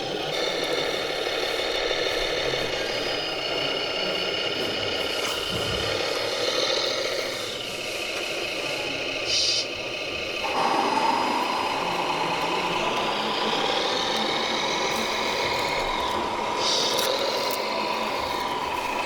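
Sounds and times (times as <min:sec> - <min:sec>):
model vehicle motors whining: 0:00.0 - 0:19.0.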